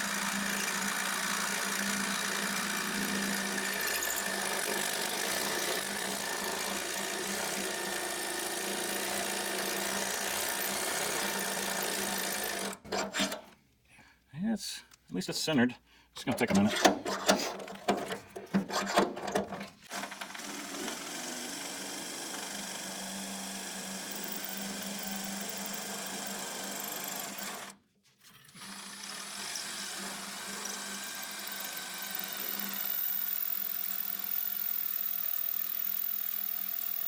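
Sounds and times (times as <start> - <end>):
electric drill boring through steel: 0.0 - 13.4, 20.0 - 37.0.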